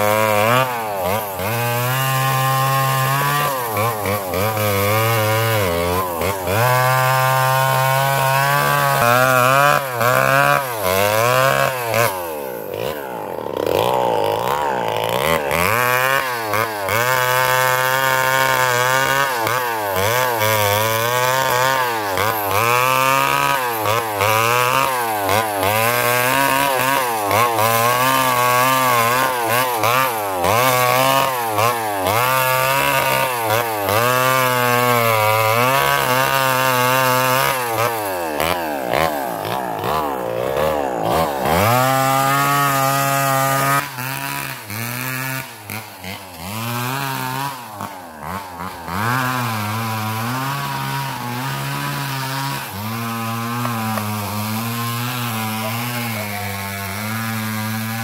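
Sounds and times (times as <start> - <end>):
chainsaw cutting branches: 0.0 - 58.0.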